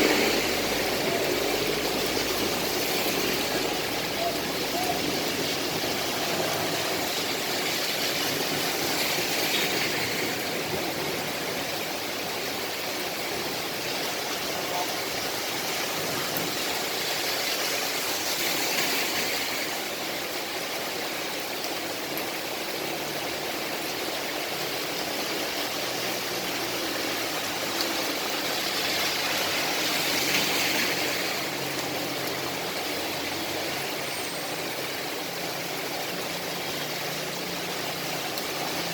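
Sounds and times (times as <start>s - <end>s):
vehicles passing: 0.0s - 20.0s, 22.0s - 38.9s
steady rain falling: 0.0s - 38.9s.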